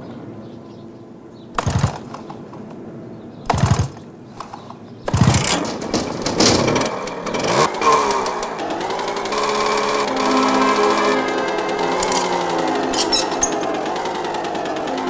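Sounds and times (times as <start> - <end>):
small lawnmower engine: 1.6 - 2.7, 3.5 - 15.0.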